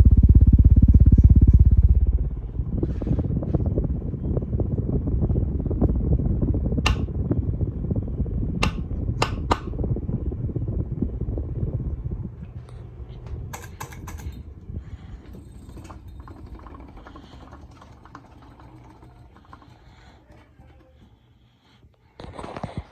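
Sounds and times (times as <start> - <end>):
ceiling fan rumbling: 0.0 - 22.9.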